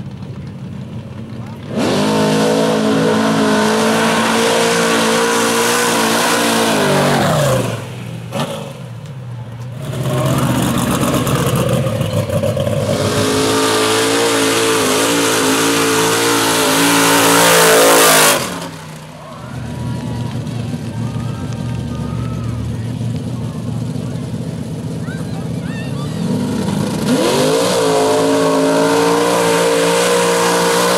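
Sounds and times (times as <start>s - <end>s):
off-road vehicle engine revving: 1.2s - 30.9s.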